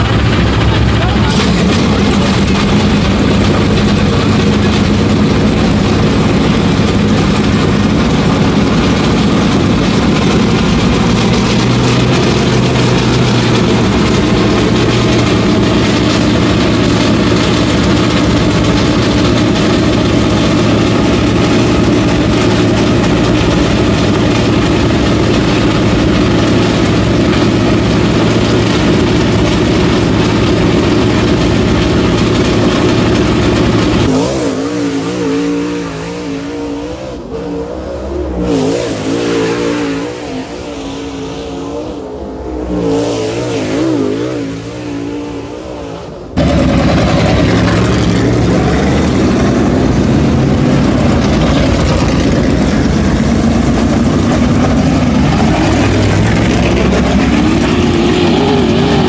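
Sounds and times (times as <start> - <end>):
race car engine idling: 0.0 - 35.1, 46.2 - 59.0.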